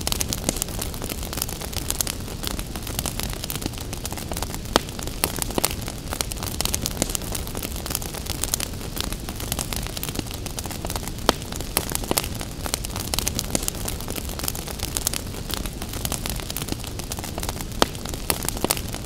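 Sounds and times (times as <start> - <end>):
low rumble of flames: 0.0 - 19.0
wood fire pops and crackles: 0.0 - 19.0.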